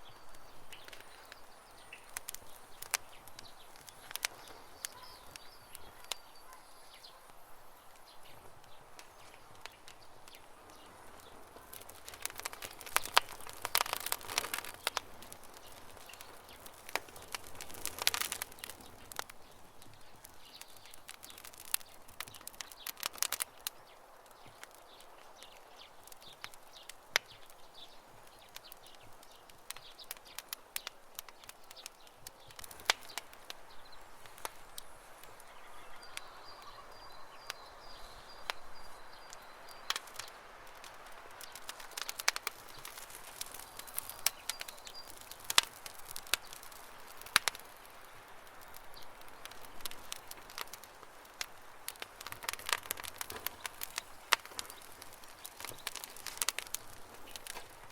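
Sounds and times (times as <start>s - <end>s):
birds chirping faintly: 0.0s - 57.9s
campfire crackling and popping: 0.0s - 57.9s.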